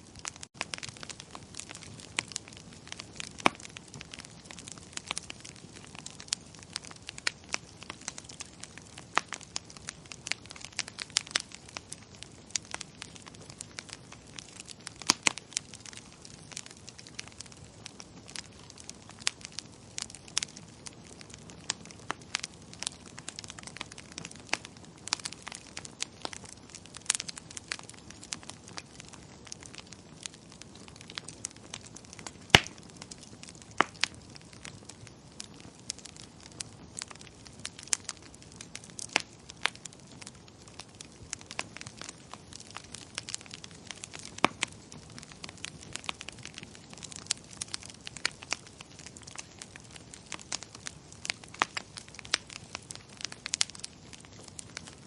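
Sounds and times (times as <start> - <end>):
wood fire pops and snaps: 0.1 - 55.0.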